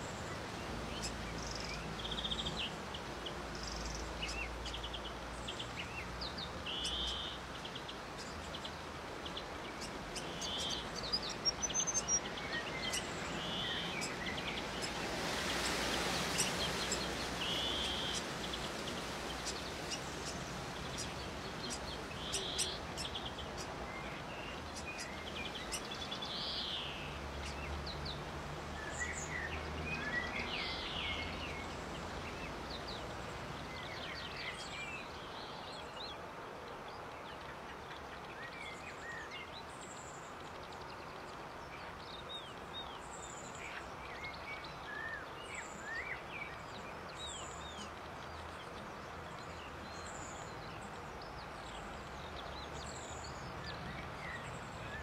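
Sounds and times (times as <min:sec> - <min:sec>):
small birds chirping: 0:00.0 - 0:55.0
steady outdoor hiss: 0:00.0 - 0:55.0.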